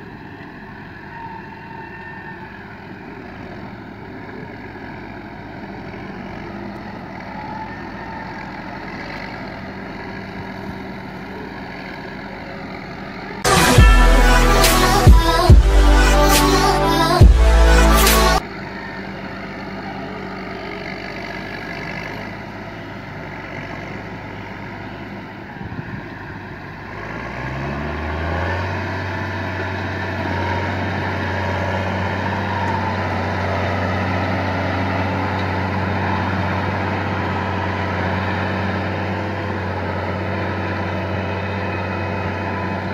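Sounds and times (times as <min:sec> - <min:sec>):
engine running: 0:02.6 - 0:42.9.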